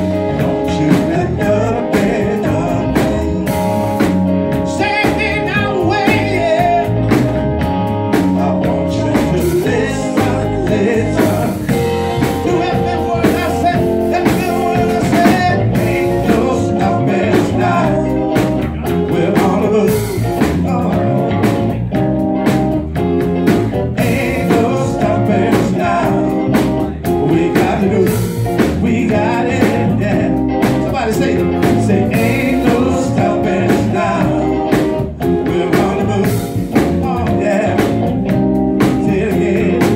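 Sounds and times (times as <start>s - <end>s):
man singing: 0.0s - 7.4s, 8.1s - 21.8s, 23.5s - 39.9s
drum kit with cymbals: 0.0s - 39.9s
electric bass guitar: 0.0s - 39.9s
electric guitar: 0.0s - 39.9s.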